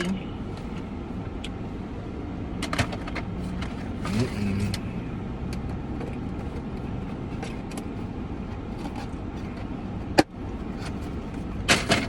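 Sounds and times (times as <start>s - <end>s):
car engine running inside cabin: 0.0s - 12.0s.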